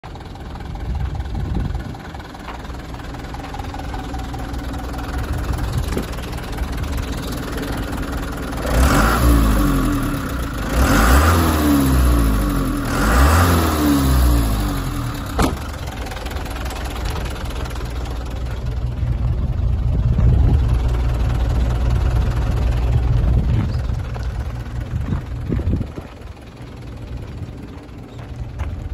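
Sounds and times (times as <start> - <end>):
diesel truck engine idling and revving: 0.0 - 28.9.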